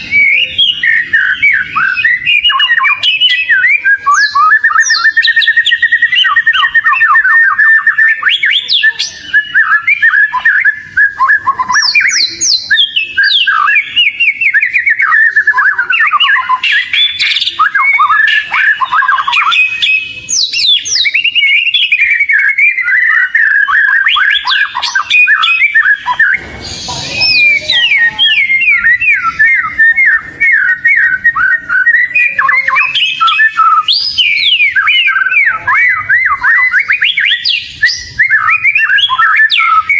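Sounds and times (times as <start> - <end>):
bird singing with trills: 0.0 - 39.9.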